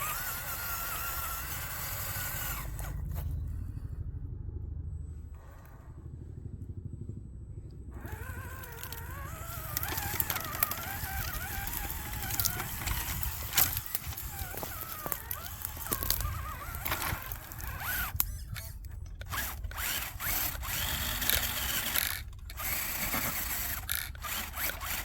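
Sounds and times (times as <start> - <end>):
electric motor and gears whining: 0.0 - 25.0
rough low rumble: 0.3 - 25.0.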